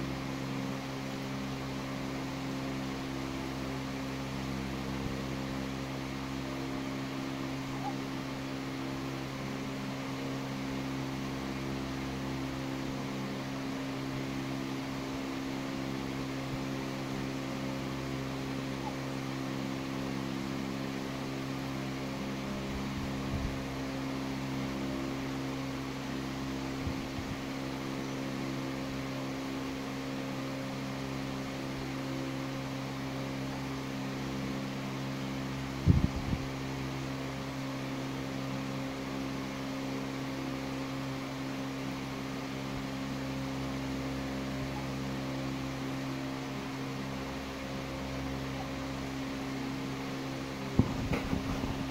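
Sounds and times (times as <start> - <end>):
machine hum: 0.0 - 51.9.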